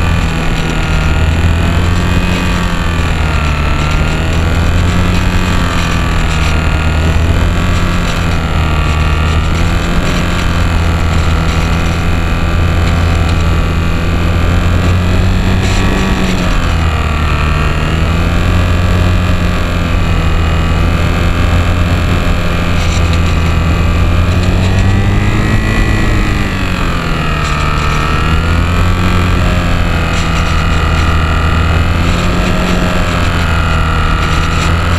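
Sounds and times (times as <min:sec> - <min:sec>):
electric motor and propeller whine: 0:00.0 - 0:34.9
wind noise: 0:00.0 - 0:34.9.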